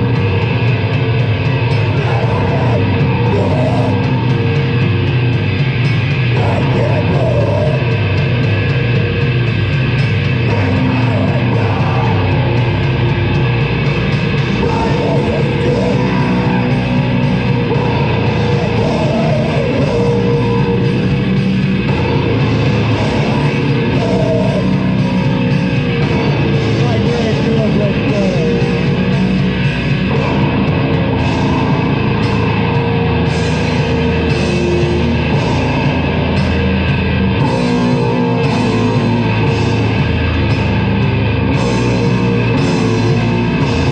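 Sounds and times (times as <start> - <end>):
heavy metal band playing live: 0.0 - 43.9.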